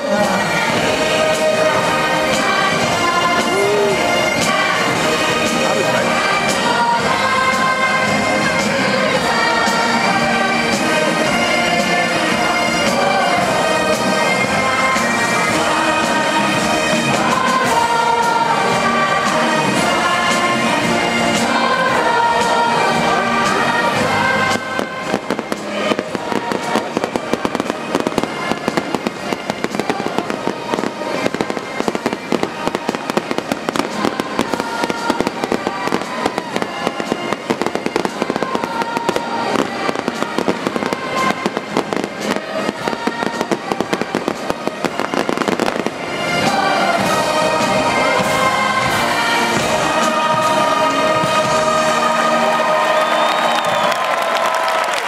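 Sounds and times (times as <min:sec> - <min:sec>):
fireworks bursting and crackling: 0:00.0 - 0:55.0
military band music: 0:00.0 - 0:55.0.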